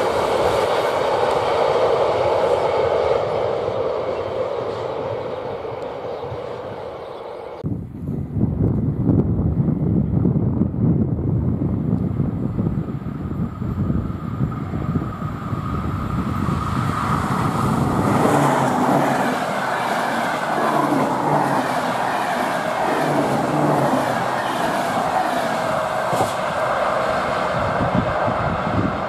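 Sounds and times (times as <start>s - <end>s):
train running past: 0.0s - 7.6s, 12.4s - 29.0s.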